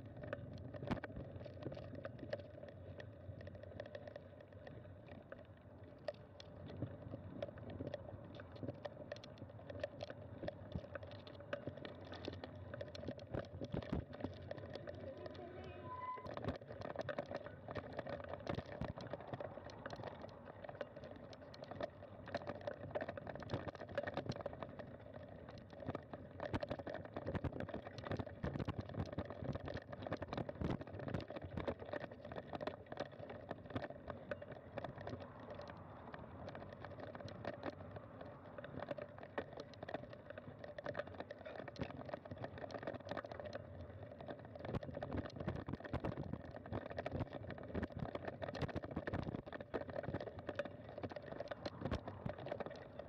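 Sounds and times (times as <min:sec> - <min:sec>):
bicycle rattling and clattering: 0:00.0 - 0:53.0.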